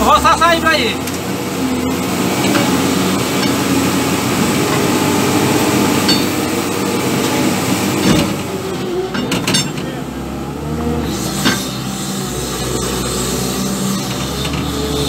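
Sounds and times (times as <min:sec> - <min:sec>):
wheel loader diesel engine: 0:00.0 - 0:15.0.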